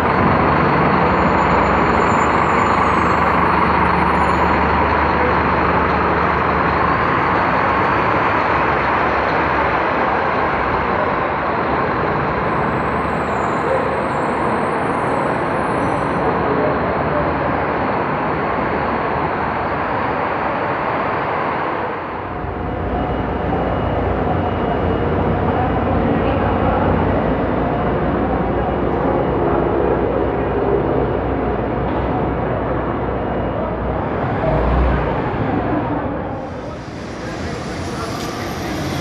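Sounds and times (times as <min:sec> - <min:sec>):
bus engine humming: 0:00.0 - 0:15.6, 0:22.2 - 0:39.0
buses running at terminal: 0:00.0 - 0:39.0.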